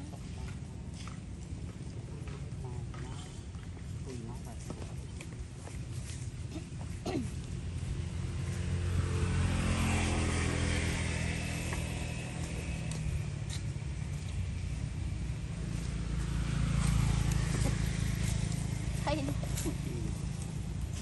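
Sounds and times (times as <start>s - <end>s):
vehicle engine droning: 0.0s - 21.0s.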